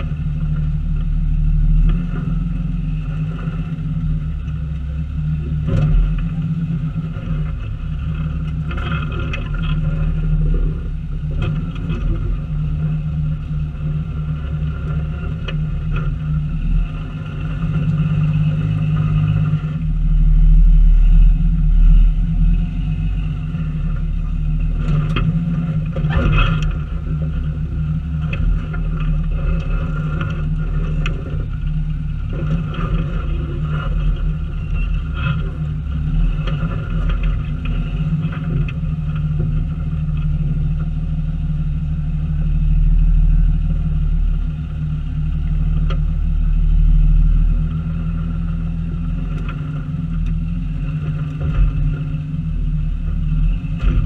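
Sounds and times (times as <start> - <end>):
vehicle engine running slowly: 0.0 - 54.0.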